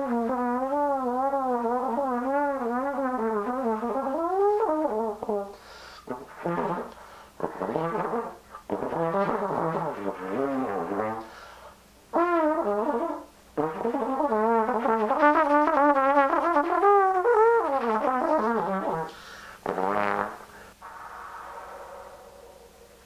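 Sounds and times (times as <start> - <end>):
solo trombone sliding phrases: 0.0 - 11.4, 12.1 - 23.0.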